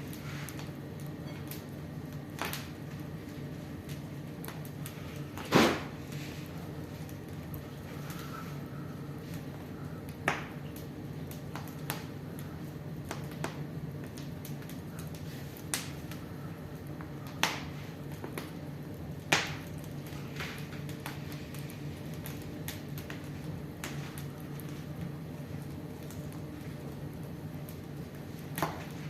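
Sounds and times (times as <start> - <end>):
fireplace fire crackling and popping: 0.0 - 29.0
steady low hum: 0.0 - 29.0.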